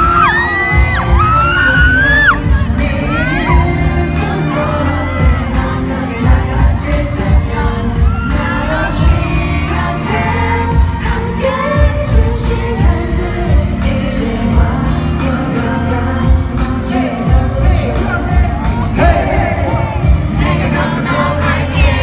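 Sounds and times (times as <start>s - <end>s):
heavy bass beat: 0.0s - 22.0s
male group singing: 0.0s - 22.0s.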